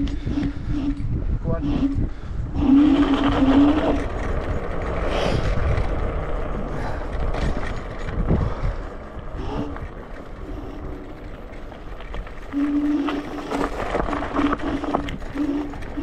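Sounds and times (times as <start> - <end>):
electric scooter motor whine: 0.0 - 16.0
wind noise on microphone: 0.0 - 16.0.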